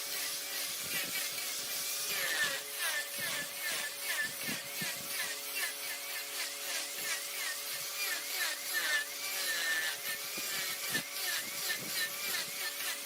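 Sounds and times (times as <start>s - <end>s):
cutting tool scraping wood: 0.0s - 13.0s
lathe motor humming: 0.0s - 13.0s.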